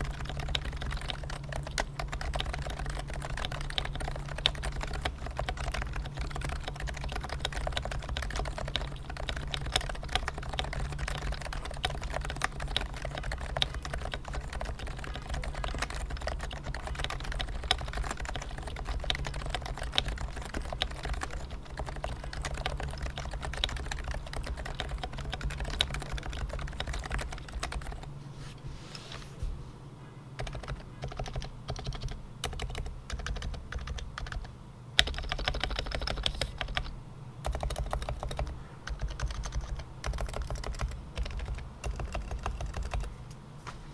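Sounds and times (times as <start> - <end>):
keyboard typing: 0.0 - 28.1, 30.4 - 43.4.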